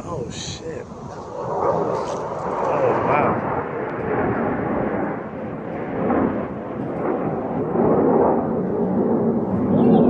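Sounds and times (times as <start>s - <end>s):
jet engines roaring overhead: 0.0s - 10.0s.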